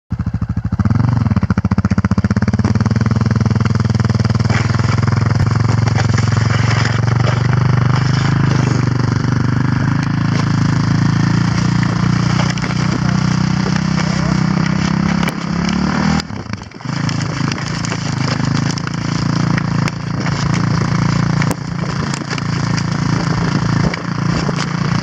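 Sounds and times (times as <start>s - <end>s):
quad bike engine under load: 0.1s - 25.0s.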